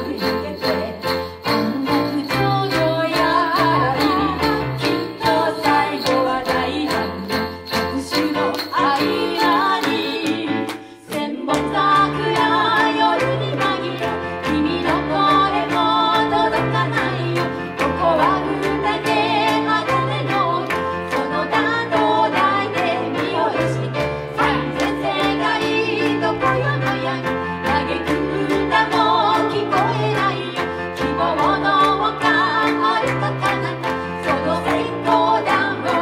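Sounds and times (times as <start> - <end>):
women singing pop song: 0.0 - 36.0.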